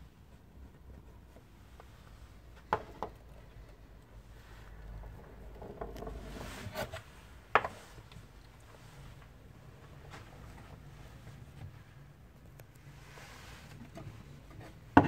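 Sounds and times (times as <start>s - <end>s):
soft rubbing and rustling: 0.0s - 15.0s.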